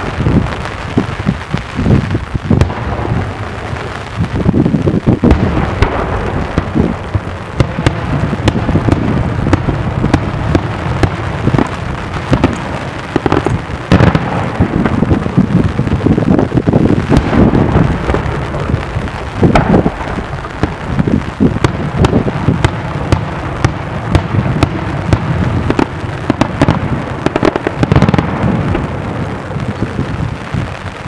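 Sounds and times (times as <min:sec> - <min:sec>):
low booming and echo: 0:00.0 - 0:30.8.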